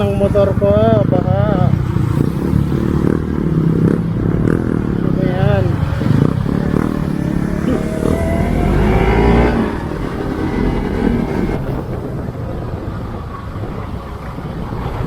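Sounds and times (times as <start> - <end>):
motorcycle engine revving: 0.0 - 12.5.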